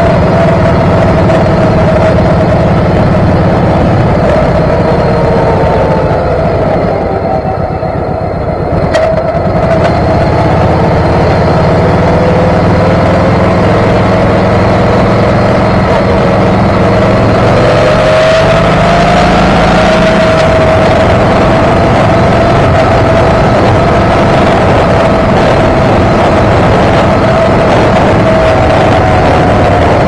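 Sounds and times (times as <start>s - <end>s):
motorcycle engine running: 0.0s - 30.0s
wind rumble on microphone: 0.0s - 30.0s.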